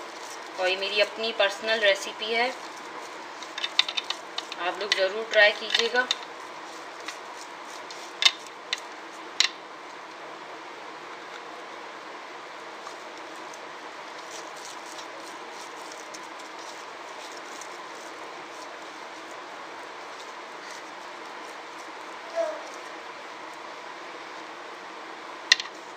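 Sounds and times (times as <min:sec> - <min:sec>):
steady background hiss: 0:00.0 - 0:25.9.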